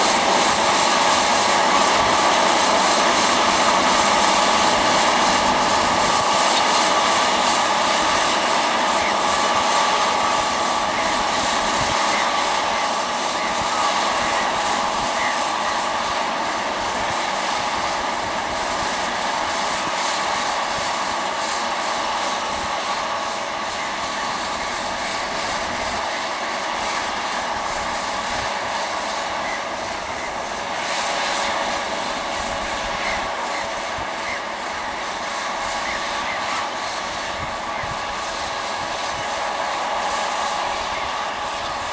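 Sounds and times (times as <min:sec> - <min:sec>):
tractor and seed drill droning: 0:00.0 - 0:41.9.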